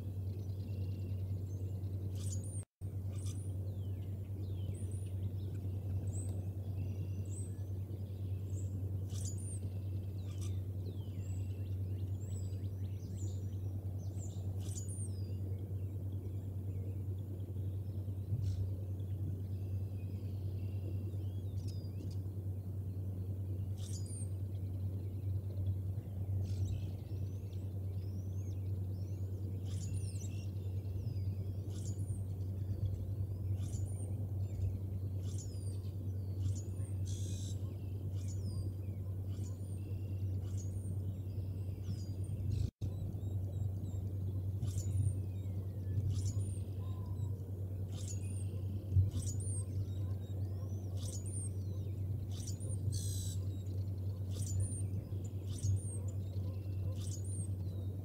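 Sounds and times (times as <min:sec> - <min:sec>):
steady low hum: 0:00.0 - 0:58.0
birds chirping and calling: 0:00.2 - 0:22.3, 0:22.9 - 0:58.0.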